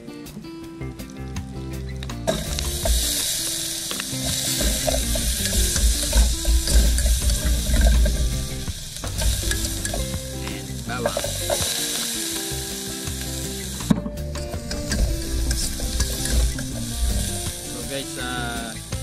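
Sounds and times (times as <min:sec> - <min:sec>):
garlic sizzling in a pot: 0:00.1 - 0:19.0.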